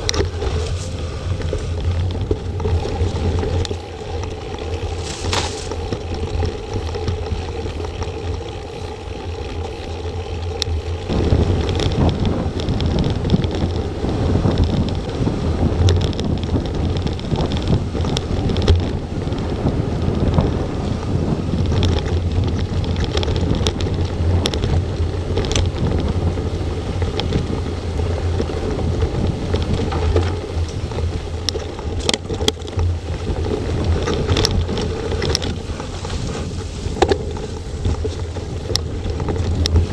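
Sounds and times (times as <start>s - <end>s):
mountain bike rumbling and rattling: 0.0s - 39.9s
wind buffeting microphone: 0.0s - 39.9s.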